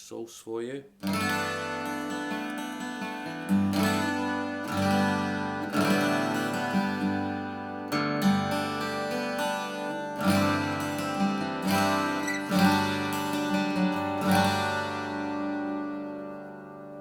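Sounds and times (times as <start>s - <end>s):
acoustic guitar strummed and picked: 1.0s - 17.0s.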